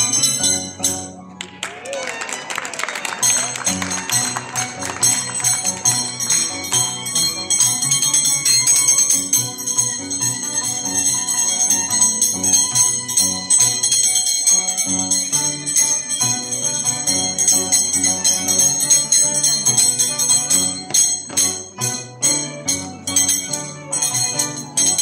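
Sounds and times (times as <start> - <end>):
harp tune: 0.0 - 25.0
violin tune: 0.0 - 25.0.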